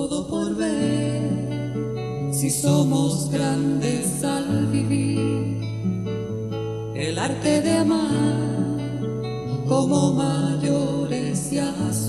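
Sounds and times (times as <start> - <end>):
person singing: 0.0 - 6.0, 6.9 - 12.0
acoustic guitar playing: 0.0 - 12.0.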